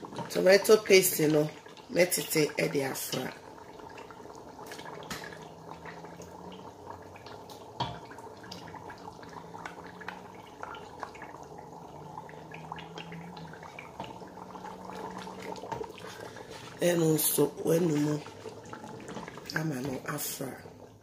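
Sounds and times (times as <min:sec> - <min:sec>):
liquid boiling in a pot: 0:00.0 - 0:21.0.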